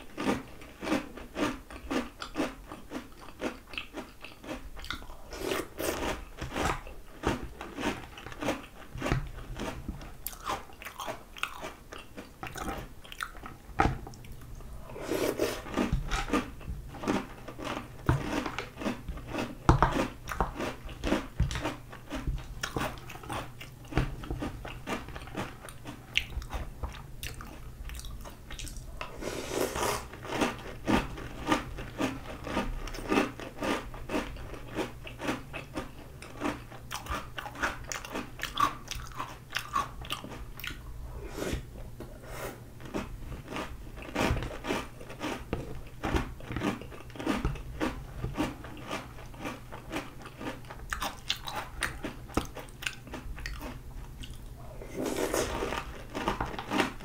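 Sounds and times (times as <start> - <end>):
crunchy cereal chewing: 0.0 - 40.9, 42.8 - 57.0.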